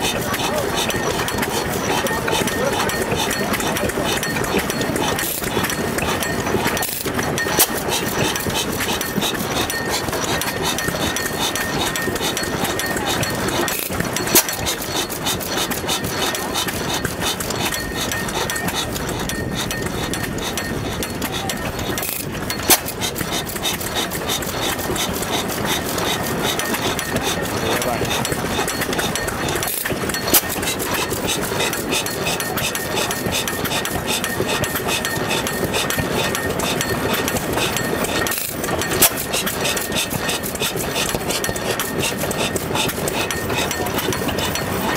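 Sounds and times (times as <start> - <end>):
stationary engine clattering: 0.0 - 44.9.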